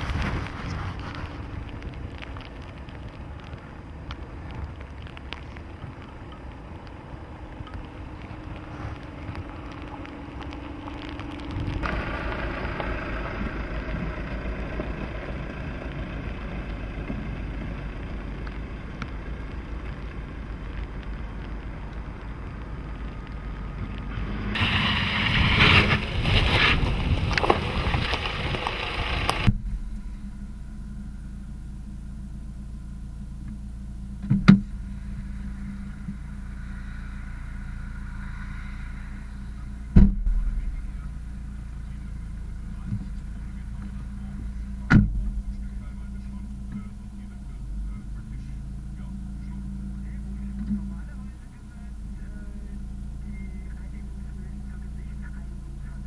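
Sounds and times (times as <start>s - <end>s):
diesel engine running off-road: 0.0s - 56.0s
engine idling inside cabin: 1.4s - 24.8s, 27.4s - 56.0s.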